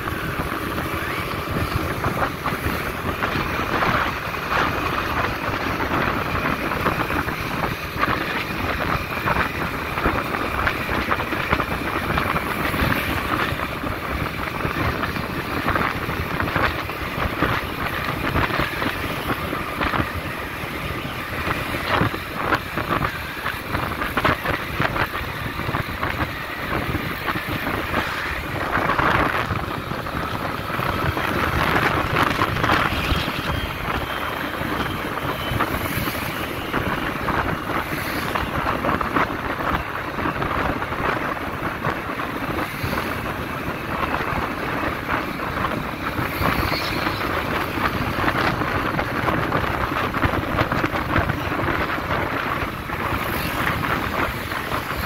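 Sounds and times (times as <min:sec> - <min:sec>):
vehicle engine and road noise: 0:00.0 - 0:55.0
wind rushing over microphone: 0:00.0 - 0:55.0.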